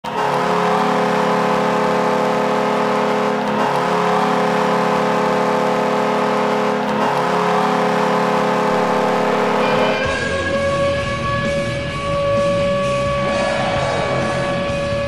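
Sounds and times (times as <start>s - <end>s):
arena goal horn blaring: 0.1s - 15.0s.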